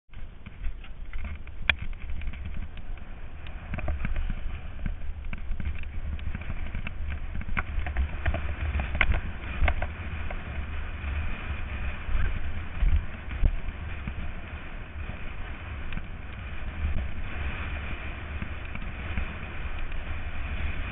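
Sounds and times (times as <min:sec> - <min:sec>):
bike rattling and clicking: 0:00.1 - 0:20.9
wind rumble on microphone: 0:00.1 - 0:20.9.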